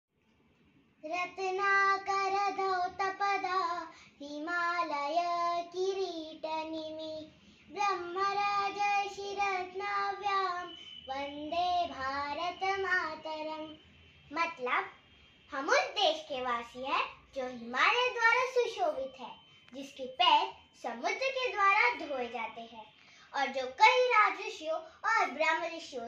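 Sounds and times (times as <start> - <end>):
girl singing unaccompanied: 1.0 - 26.0.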